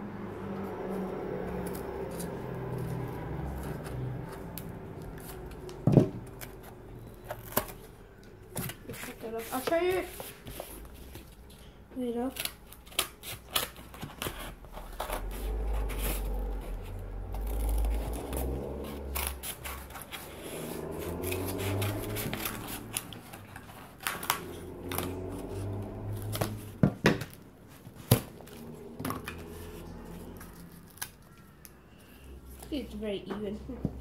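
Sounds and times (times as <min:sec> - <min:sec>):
scissors cutting cardboard: 0:01.6 - 0:11.3, 0:12.1 - 0:31.4.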